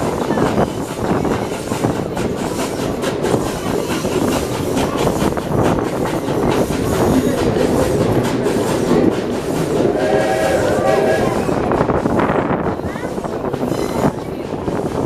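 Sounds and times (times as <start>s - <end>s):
steam train running: 0.0s - 15.0s.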